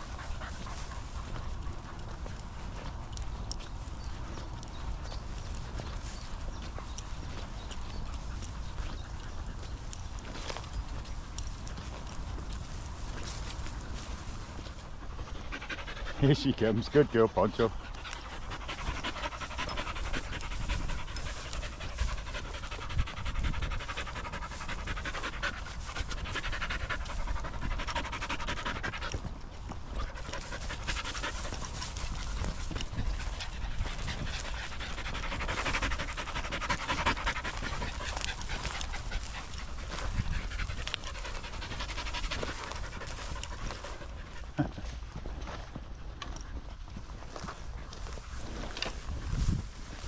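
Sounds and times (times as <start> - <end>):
dog panting: 0.0 - 50.0.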